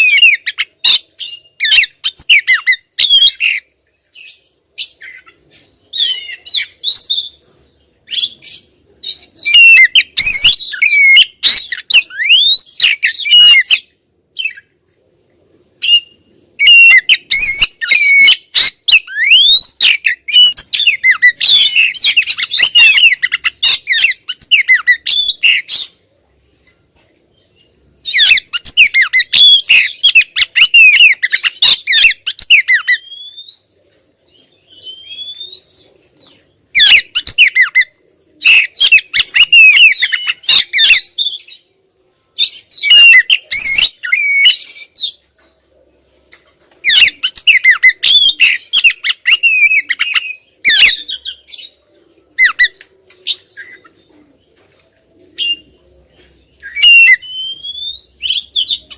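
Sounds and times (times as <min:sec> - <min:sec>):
bird chattering song: 0:00.0 - 0:14.7, 0:15.8 - 0:26.0, 0:27.4 - 0:41.7, 0:42.4 - 0:58.9.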